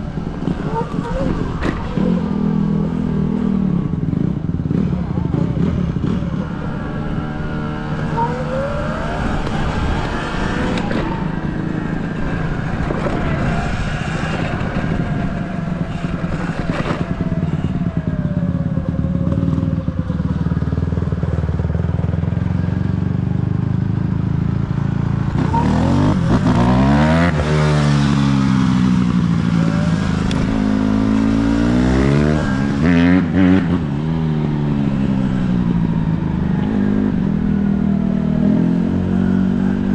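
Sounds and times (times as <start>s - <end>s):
dirt bike engine: 0.0s - 21.1s, 25.4s - 39.9s.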